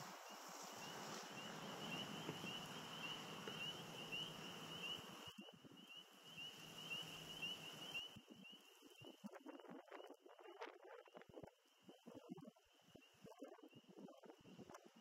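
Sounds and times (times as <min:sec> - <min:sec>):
steady hiss: 0:00.0 - 0:15.0
frogs chirping: 0:00.1 - 0:15.0.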